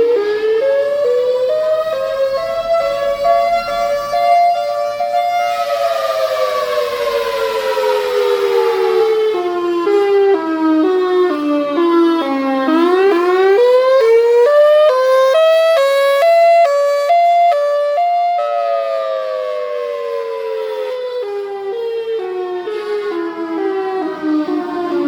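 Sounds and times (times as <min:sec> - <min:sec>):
dual-tone siren wailing: 0:00.0 - 0:25.0.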